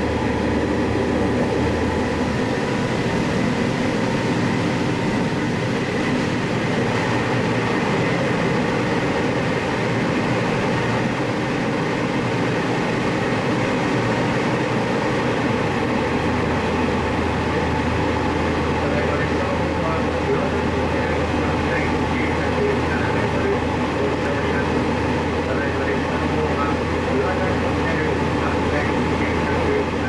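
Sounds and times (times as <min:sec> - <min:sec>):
diesel engine noise: 0:00.0 - 0:30.0
wheels rumbling on rail: 0:00.0 - 0:30.0.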